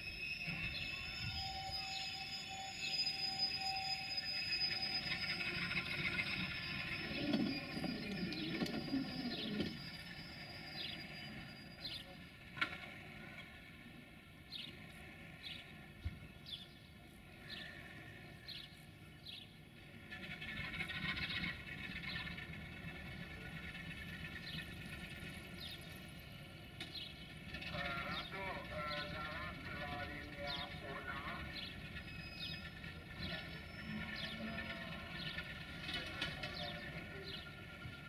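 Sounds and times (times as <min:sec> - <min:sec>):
birds chirping: 0:00.0 - 0:12.4, 0:14.4 - 0:19.8, 0:21.2 - 0:38.0
train rumbling on rails: 0:00.0 - 0:38.0.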